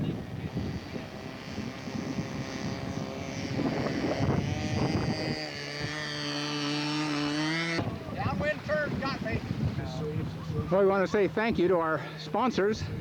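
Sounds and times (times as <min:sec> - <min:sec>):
wind on microphone: 0:00.0 - 0:11.9, 0:12.5 - 0:13.0
model airplane engine running: 0:00.0 - 0:13.0.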